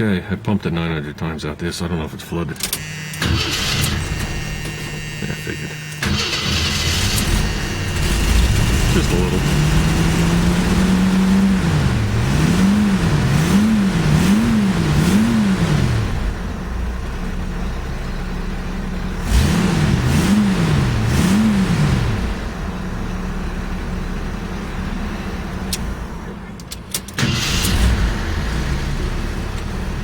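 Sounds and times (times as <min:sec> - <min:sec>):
engine revving: 0:02.8 - 0:17.2, 0:19.1 - 0:26.3, 0:27.2 - 0:30.0.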